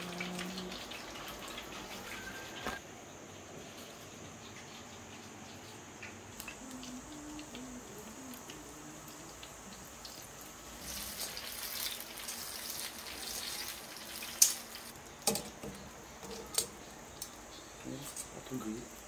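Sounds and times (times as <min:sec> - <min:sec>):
food sizzling in frying oil: 0:00.0 - 0:02.8, 0:04.5 - 0:19.0.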